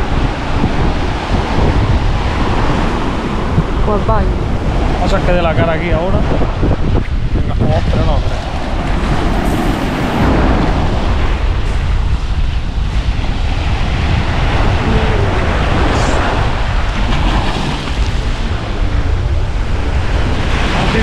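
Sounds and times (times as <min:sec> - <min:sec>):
sea waves washing onto beach: 0:00.0 - 0:21.0
wind buffeting microphone: 0:00.0 - 0:21.0.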